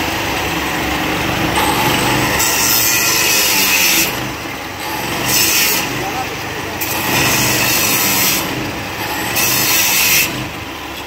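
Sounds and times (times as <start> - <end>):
power saw cutting metal: 0.0 - 11.0.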